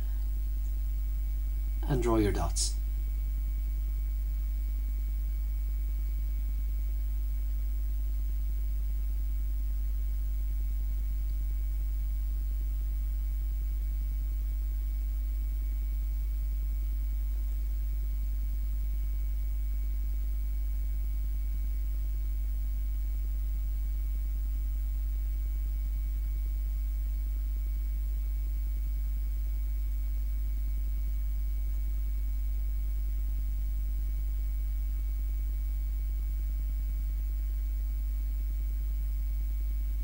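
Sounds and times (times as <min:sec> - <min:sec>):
low electrical hum: 0:00.0 - 0:40.0.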